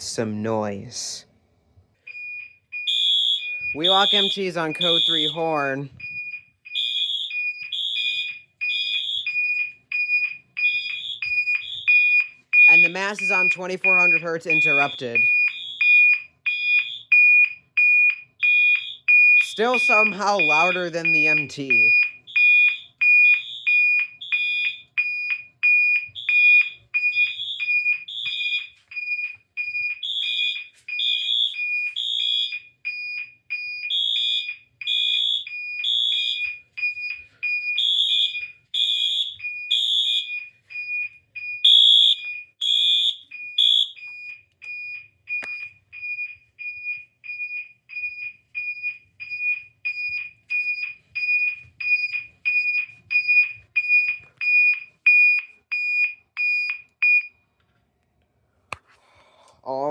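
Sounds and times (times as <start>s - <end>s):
fire alarm horn blasts: 2.1s - 57.2s
interrupted alarm tone beeping: 2.1s - 57.4s.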